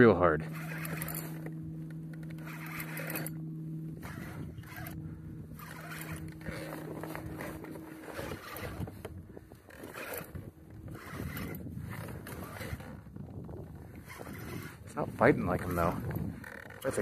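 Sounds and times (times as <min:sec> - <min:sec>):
fishing reel ratcheting whir: 0:00.0 - 0:17.0
low hum: 0:00.0 - 0:17.0.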